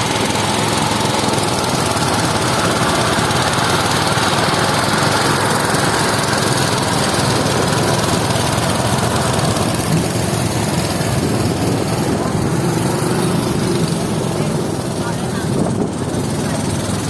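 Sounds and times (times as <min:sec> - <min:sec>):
harvesting machine running: 0:00.0 - 0:17.0.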